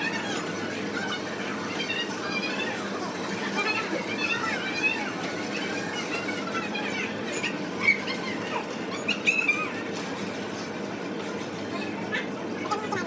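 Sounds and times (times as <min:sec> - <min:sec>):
restaurant murmur: 0:00.0 - 0:13.0.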